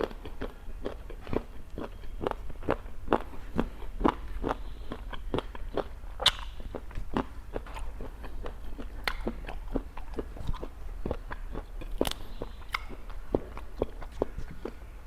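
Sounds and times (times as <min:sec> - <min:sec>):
crunchy chewing: 0:00.0 - 0:15.0
low steady hum: 0:00.0 - 0:15.0.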